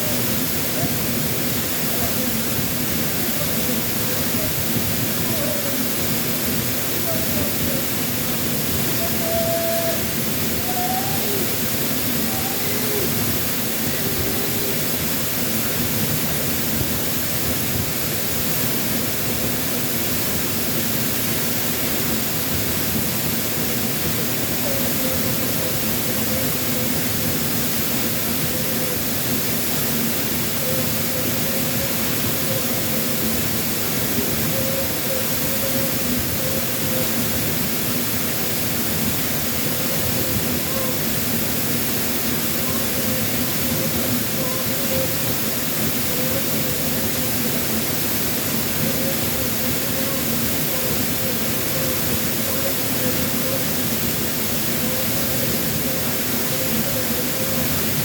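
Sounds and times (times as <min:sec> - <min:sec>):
faint wavering voice: 0:00.0 - 0:17.9, 0:23.3 - 0:58.0
waterfall roaring: 0:00.0 - 0:58.0.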